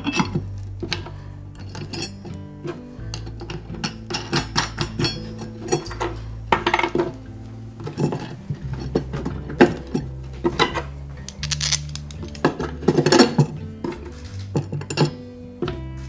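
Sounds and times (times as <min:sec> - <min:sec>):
steel washers and nuts clinking: 0:00.0 - 0:15.2.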